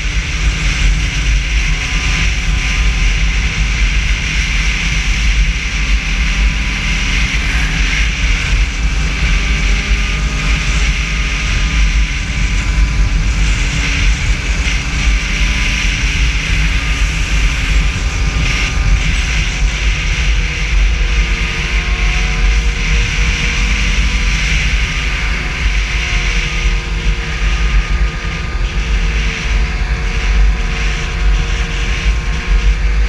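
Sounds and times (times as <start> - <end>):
snowmobile engine running: 0.0 - 33.0
wind rumble on microphone: 0.0 - 33.0.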